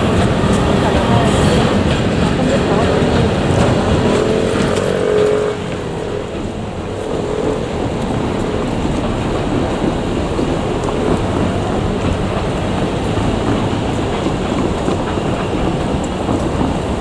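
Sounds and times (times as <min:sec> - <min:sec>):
electric train running on rails: 0:00.0 - 0:17.0
wheels rumbling on track: 0:00.0 - 0:17.0.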